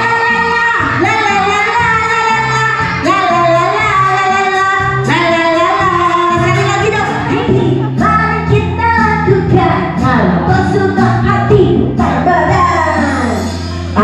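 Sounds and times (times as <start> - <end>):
high singing voice: 0.0 - 14.0
low bass notes: 0.0 - 14.0.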